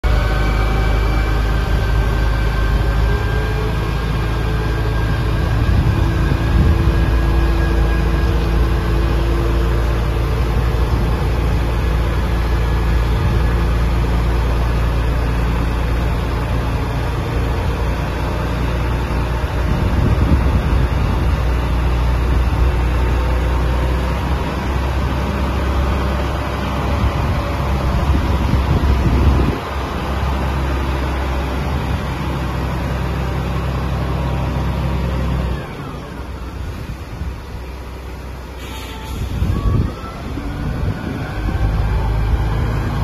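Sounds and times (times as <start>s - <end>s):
concrete pump engine rumbling: 0.0s - 43.0s.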